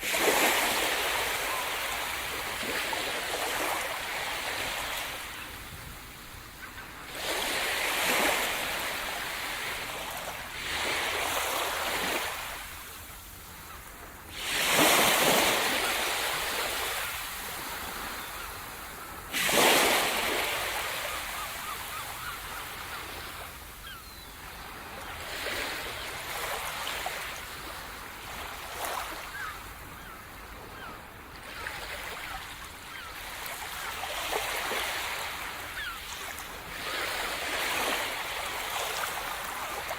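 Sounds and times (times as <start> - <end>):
waves crashing on shore: 0.0 - 30.2, 31.5 - 39.9.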